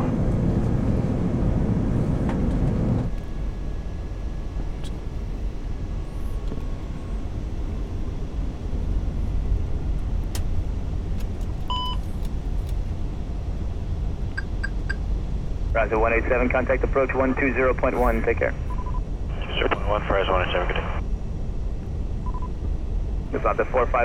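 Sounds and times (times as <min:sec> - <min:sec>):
airflow and engines rumbling: 0:00.0 - 0:24.0.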